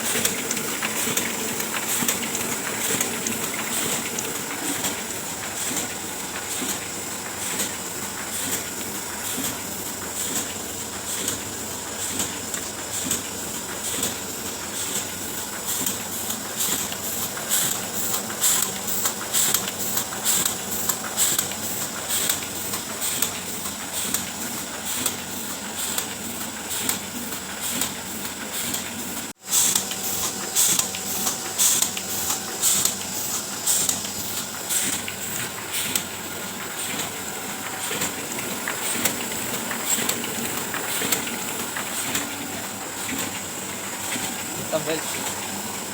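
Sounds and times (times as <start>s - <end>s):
printing press running: 0.0s - 45.9s.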